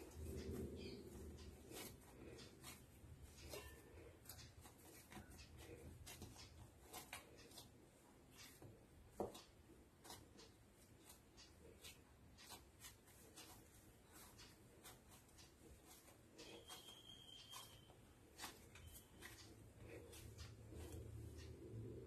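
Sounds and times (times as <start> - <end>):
hands kneading dough on stone: 0.0 - 22.0.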